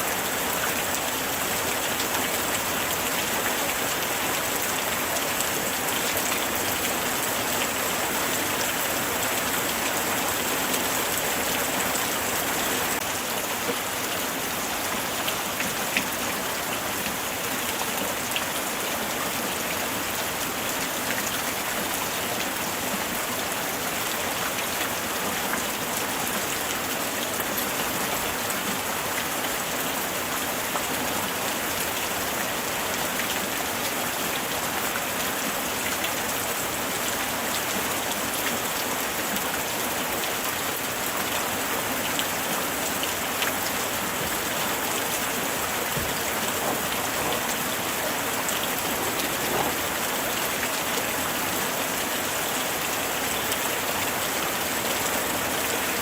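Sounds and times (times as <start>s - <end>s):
light rain hiss: 0.0s - 56.0s.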